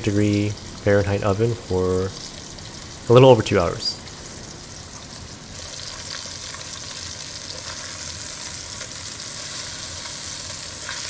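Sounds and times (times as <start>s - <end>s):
steak sizzling in hot oil: 0.0s - 11.0s.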